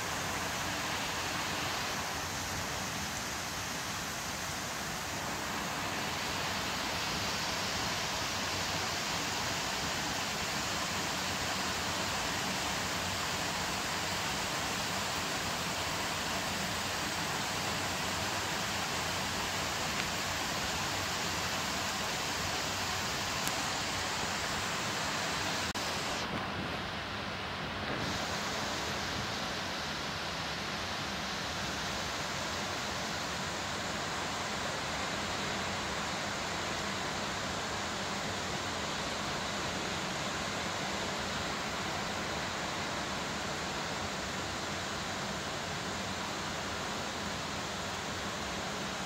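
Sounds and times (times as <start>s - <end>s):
heavy rain pouring: 0.0s - 49.0s.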